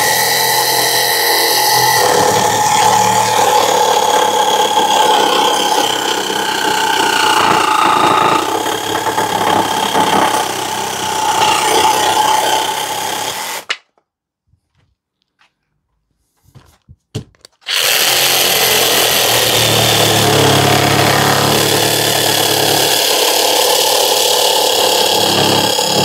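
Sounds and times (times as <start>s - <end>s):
saw motor whine: 0.0s - 13.6s, 17.7s - 26.0s.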